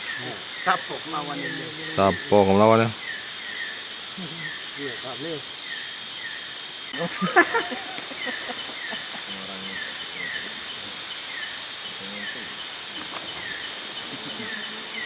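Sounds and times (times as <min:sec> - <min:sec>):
insects shrilling in chorus: 0:00.0 - 0:15.0.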